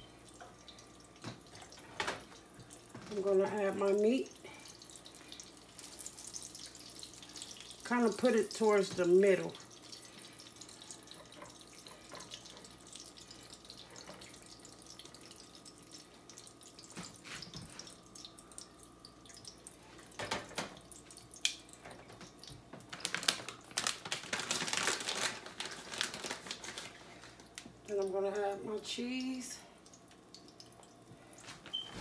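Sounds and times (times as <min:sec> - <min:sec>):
tortilla sizzling in oil: 0:00.0 - 0:27.8.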